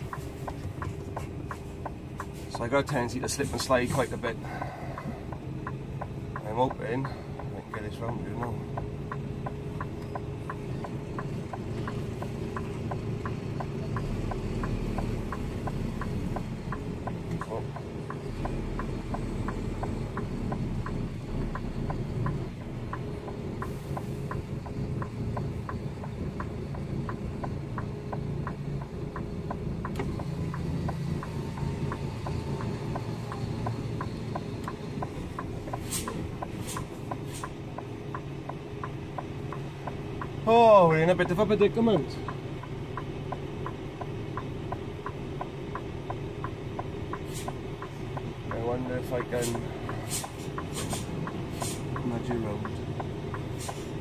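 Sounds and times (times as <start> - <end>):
lorry diesel engine at low revs: 0.0 - 54.0
quick steady ticking: 0.0 - 54.0.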